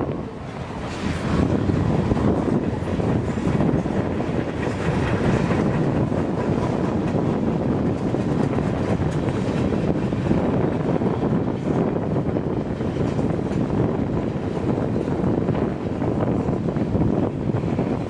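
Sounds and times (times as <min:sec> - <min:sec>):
train rumbling past: 0:00.0 - 0:18.0
wind buffeting microphone: 0:00.0 - 0:18.0.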